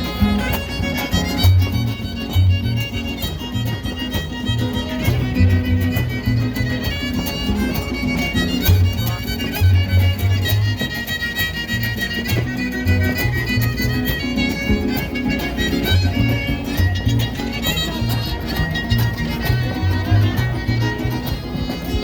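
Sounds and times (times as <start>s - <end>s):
strummed guitars: 0.0s - 22.0s
violin melody: 0.0s - 22.0s.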